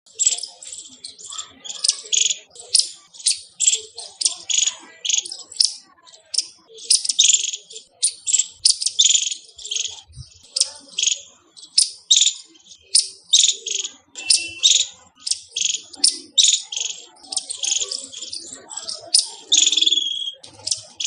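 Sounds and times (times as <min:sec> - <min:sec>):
squirrel chirping: 0:00.0 - 0:21.0.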